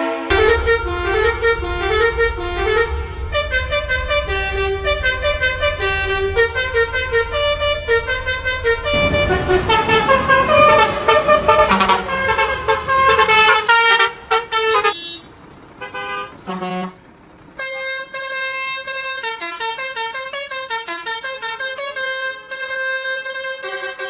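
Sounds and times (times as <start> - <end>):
engine and road noise: 0.0 - 24.0
truck horns honking melody: 0.0 - 24.0.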